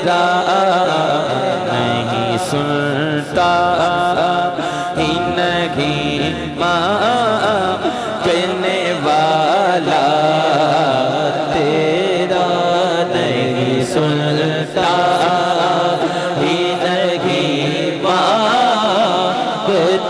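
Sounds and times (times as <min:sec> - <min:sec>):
man singing into microphone: 0:00.0 - 0:20.0.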